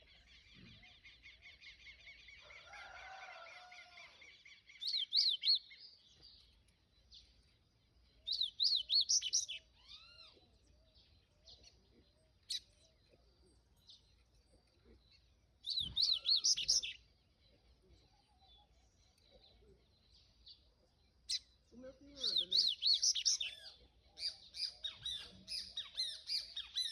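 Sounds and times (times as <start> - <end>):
faint calls of other birds: 0.0 - 26.9.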